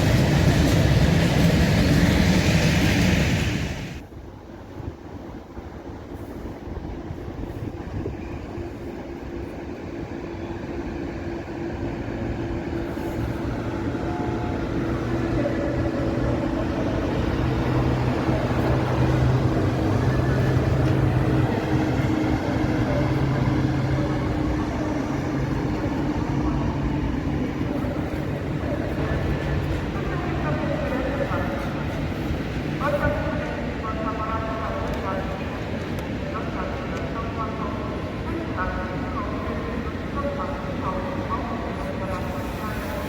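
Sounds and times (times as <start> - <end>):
electric train rumble: 0.0 - 43.0.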